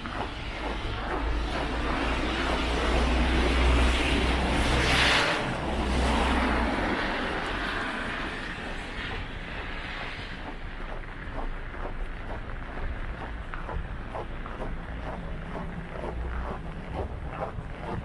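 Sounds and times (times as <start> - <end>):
tyre noise on wet road: 0.0 - 18.0
vehicle engine rumble: 0.0 - 18.0.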